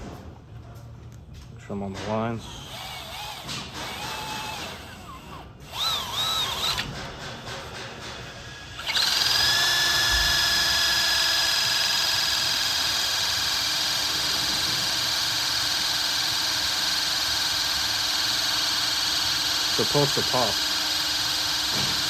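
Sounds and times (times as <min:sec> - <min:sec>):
hydraulic crimping tool whining: 0:02.4 - 0:22.0.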